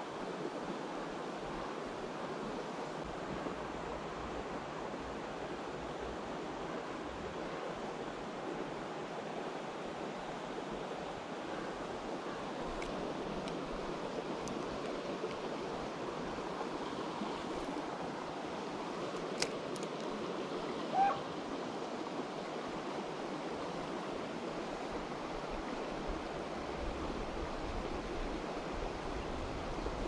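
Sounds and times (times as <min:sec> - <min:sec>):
creek running over rocks: 0:00.1 - 0:30.0.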